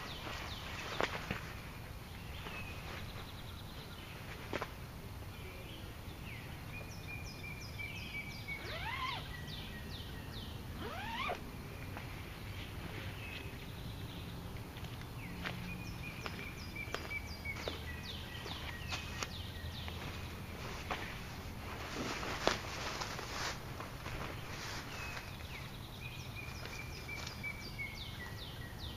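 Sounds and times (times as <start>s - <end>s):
songbirds singing: 0.0s - 28.9s
steady low background hiss: 0.0s - 28.9s.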